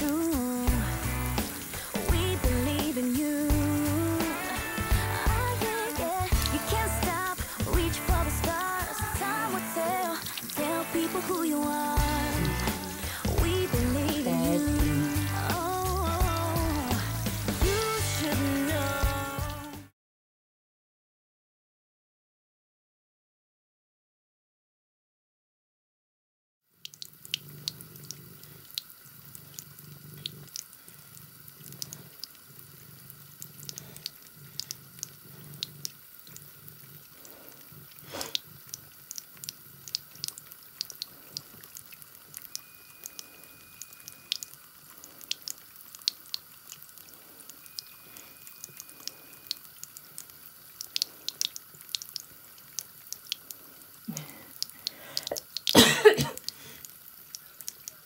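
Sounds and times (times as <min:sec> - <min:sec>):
cat lapping water: 0:00.0 - 0:18.3, 0:26.9 - 0:43.3, 0:44.1 - 0:47.8, 0:48.6 - 0:55.8, 0:56.4 - 0:58.0
water running from faucet: 0:00.0 - 0:19.9, 0:26.8 - 0:58.0.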